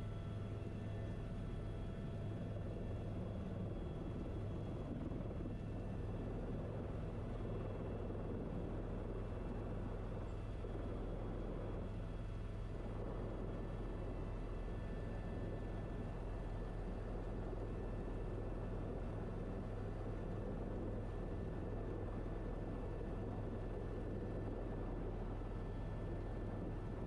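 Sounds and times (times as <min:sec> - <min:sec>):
helicopter cabin drone: 0:00.0 - 0:27.0.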